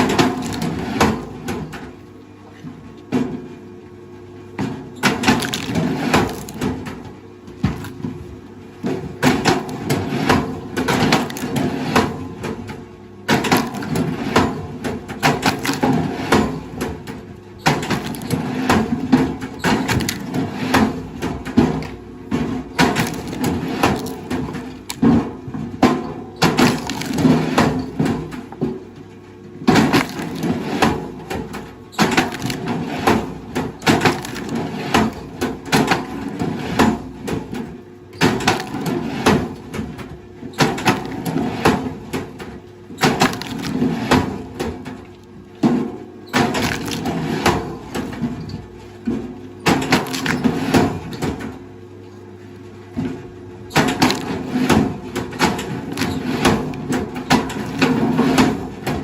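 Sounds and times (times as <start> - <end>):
wood cracking and splintering: 0.0 - 1.2, 5.0 - 8.2, 8.8 - 12.2, 13.3 - 28.7, 29.6 - 37.6, 38.2 - 40.0, 40.6 - 48.4, 49.6 - 51.5, 53.7 - 59.0
faint machine hum: 0.0 - 59.0.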